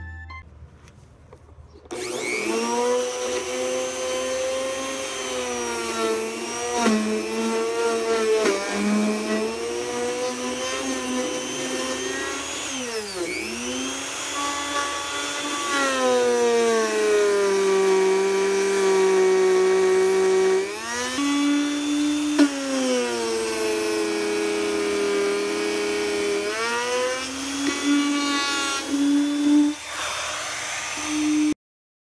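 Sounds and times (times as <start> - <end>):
electric router whining: 1.9 - 31.6
router bit cutting wood: 1.9 - 31.6.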